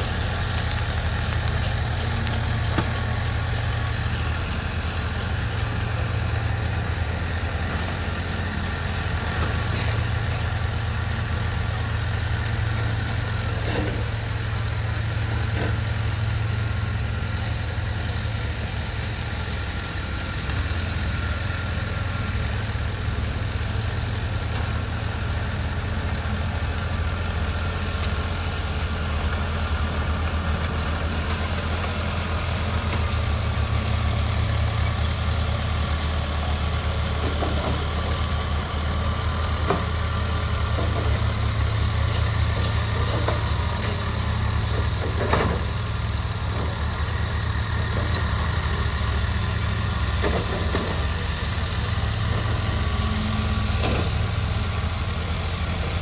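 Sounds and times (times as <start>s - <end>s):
bulldozer diesel engine droning: 0.0s - 56.0s
bulldozer pushing sand: 0.0s - 56.0s.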